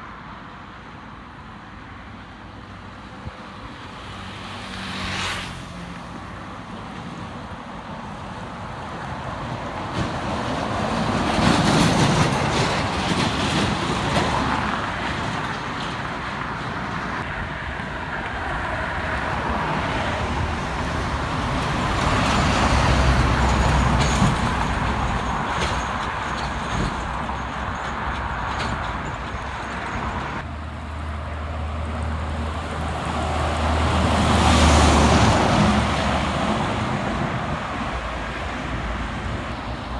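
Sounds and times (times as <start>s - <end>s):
heavy trucks passing: 2.5s - 39.9s.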